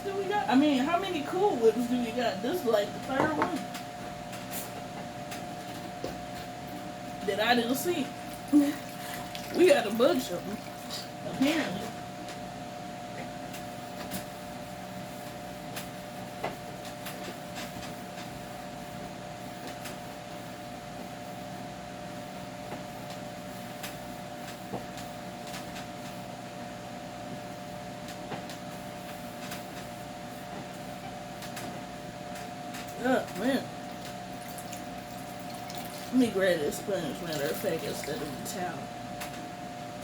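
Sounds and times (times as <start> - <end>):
steady mechanical hum: 0.0 - 40.0.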